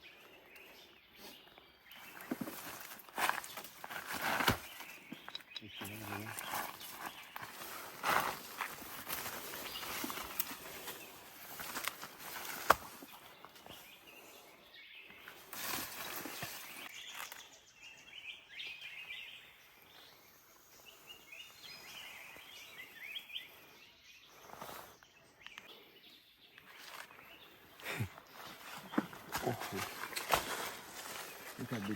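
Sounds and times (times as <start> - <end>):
small birds chirping: 0.0 - 31.9.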